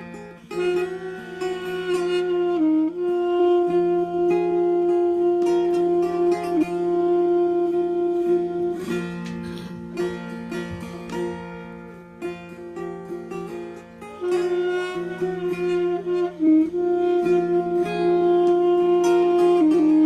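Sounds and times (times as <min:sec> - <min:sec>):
wooden flute long notes: 0:00.0 - 0:11.2, 0:13.4 - 0:20.0
plucked lute: 0:00.0 - 0:20.0.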